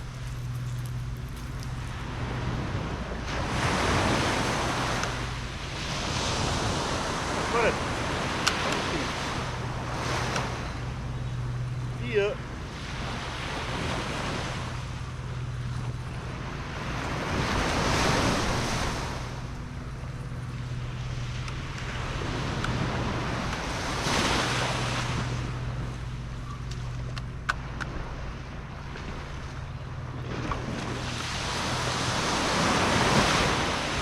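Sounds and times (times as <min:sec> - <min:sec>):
ocean waves washing on shore: 0:00.0 - 0:34.0
wind buffeting microphone: 0:00.0 - 0:34.0.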